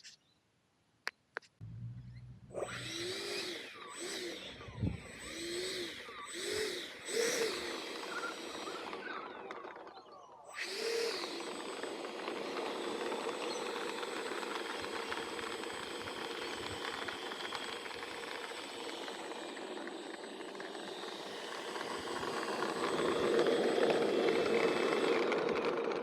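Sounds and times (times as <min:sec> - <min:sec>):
small electric motor whining: 0:01.6 - 0:26.0.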